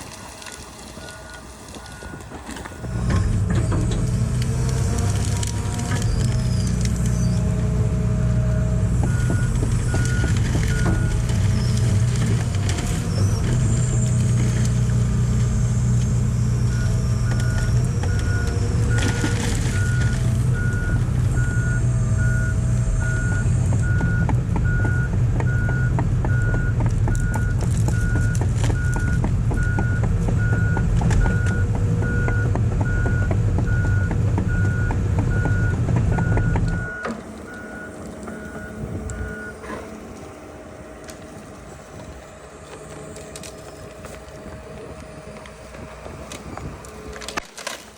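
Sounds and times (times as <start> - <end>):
diesel engine running: 0.0 - 47.5.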